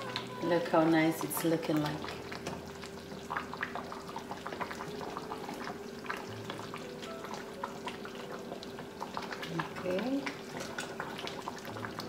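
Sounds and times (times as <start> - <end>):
stew bubbling and popping in a pot: 0.0 - 12.0.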